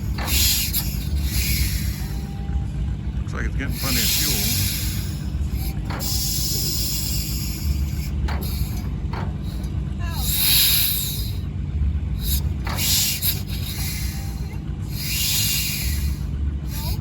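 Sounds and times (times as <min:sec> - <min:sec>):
hissing puff: 0:00.0 - 0:02.3, 0:03.7 - 0:11.5, 0:12.2 - 0:17.0
engine low rumble: 0:00.0 - 0:17.0.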